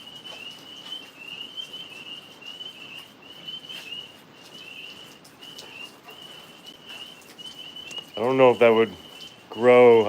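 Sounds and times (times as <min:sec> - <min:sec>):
tree frogs trilling: 0:00.0 - 0:10.0.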